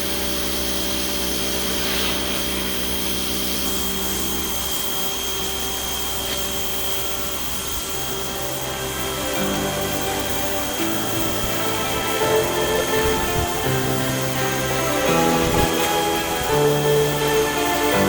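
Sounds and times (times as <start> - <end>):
pressure washer spraying concrete: 0.0 - 18.0.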